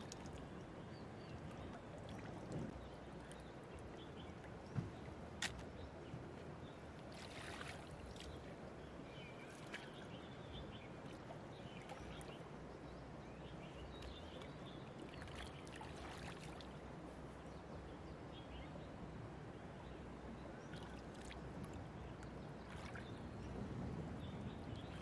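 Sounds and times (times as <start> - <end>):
shallow river water splashing: 0.0 - 17.6, 20.5 - 25.0.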